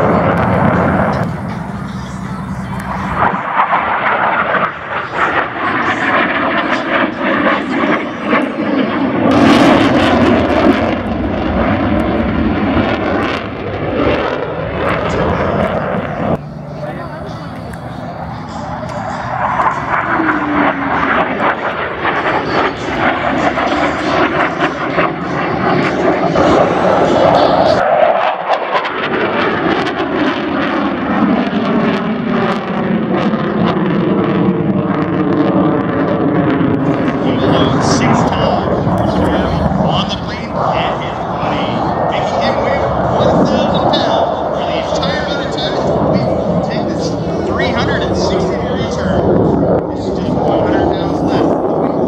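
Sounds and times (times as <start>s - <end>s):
fighter jet roaring with crackle: 0.0s - 52.0s.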